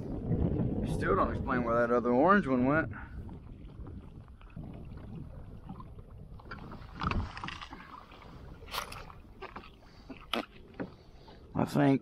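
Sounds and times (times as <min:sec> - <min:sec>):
water splashing: 0:00.0 - 0:11.8
water moving around kayak hull: 0:00.0 - 0:12.0
wind: 0:00.0 - 0:12.0.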